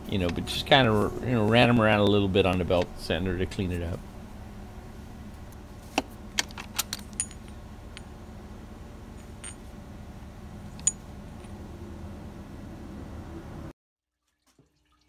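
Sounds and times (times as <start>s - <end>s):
low steady hum: 0.0s - 13.7s.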